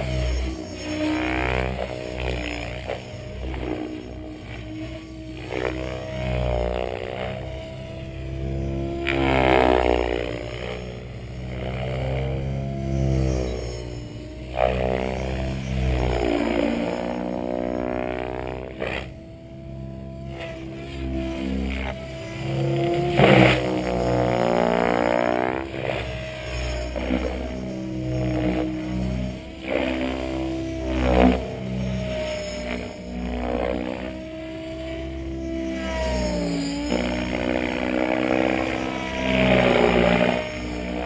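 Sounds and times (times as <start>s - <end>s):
model helicopter rotor and motor hum: 0.0s - 41.0s.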